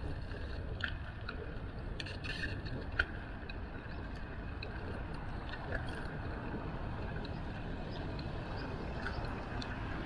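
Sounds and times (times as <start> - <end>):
wind and tyre rumble: 0.0 - 10.0.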